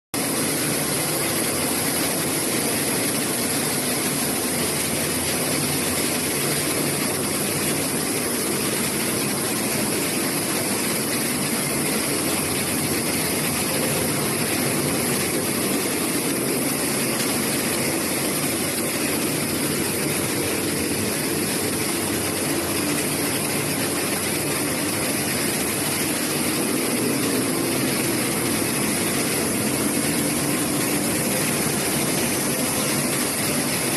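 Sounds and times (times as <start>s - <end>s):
milling machinery hum and hiss: 0.2s - 33.9s.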